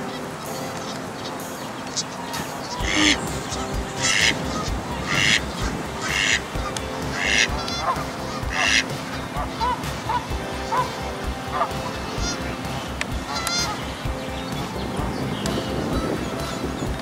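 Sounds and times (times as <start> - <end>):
waterfowl calling: 0.0 - 17.0.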